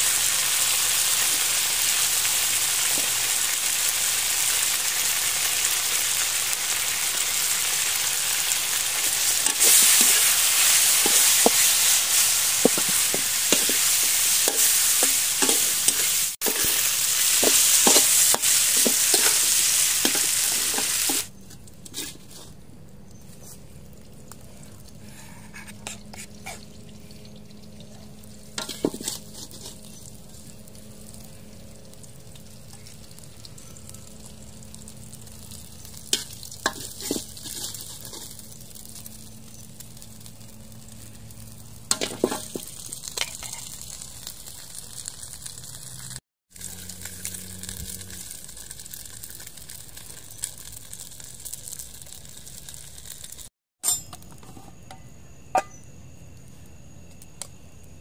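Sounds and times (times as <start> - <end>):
food sizzling in hot oil: 0.0 - 22.6, 25.9 - 54.0.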